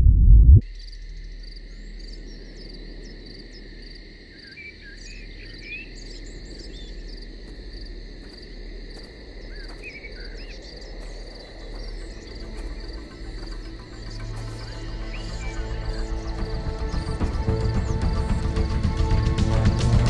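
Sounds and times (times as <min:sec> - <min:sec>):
insects trilling: 0:00.6 - 0:19.4.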